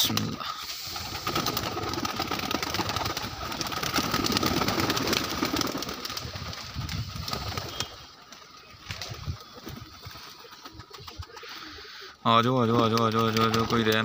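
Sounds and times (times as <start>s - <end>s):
pigeons flapping wings: 0.0s - 11.8s, 12.6s - 14.0s
pigeons cooing: 0.8s - 14.0s.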